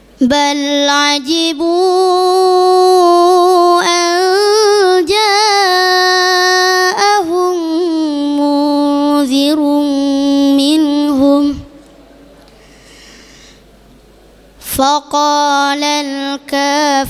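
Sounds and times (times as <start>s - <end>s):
boy reciting melodically: 0.2s - 12.0s, 14.6s - 17.0s.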